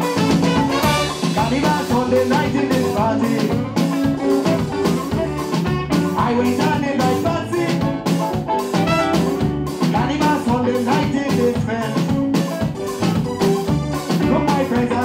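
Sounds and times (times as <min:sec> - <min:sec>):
live band playing upbeat music: 0:00.0 - 0:15.0.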